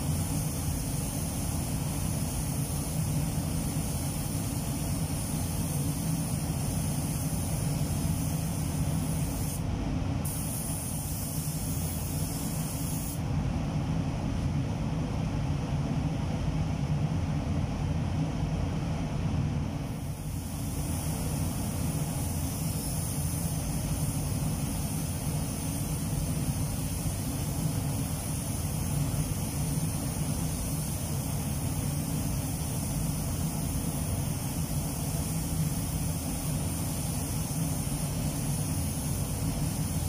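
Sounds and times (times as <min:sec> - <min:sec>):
paint spray gun hissing: 0:00.0 - 0:09.6, 0:10.2 - 0:13.2, 0:19.9 - 0:40.0.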